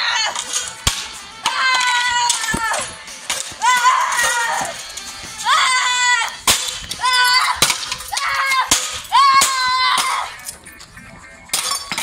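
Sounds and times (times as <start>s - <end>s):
high-pitched yells: 0.0s - 0.6s, 1.4s - 10.4s.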